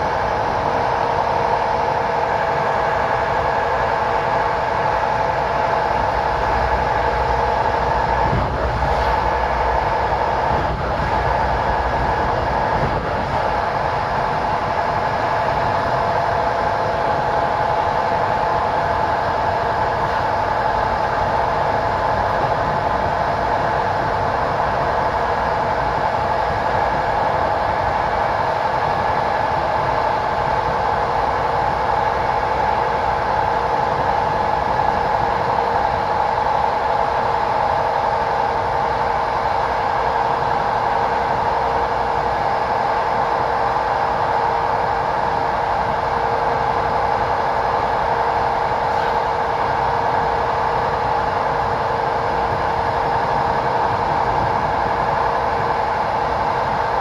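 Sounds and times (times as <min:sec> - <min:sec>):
passenger train running on rails: 0:00.0 - 0:57.0.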